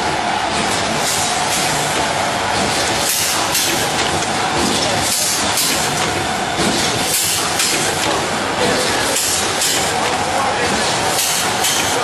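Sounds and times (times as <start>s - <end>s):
packing machine clatter: 0.4s - 12.0s.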